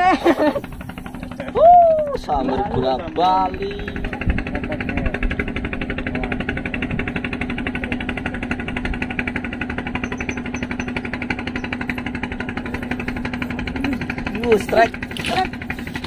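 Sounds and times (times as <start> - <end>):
boat engine chugging: 0.0 - 16.0.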